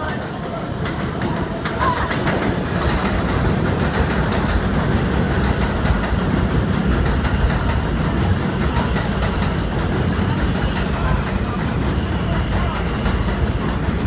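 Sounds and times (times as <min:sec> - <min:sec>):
subway train rail rumble: 0:00.0 - 0:14.0.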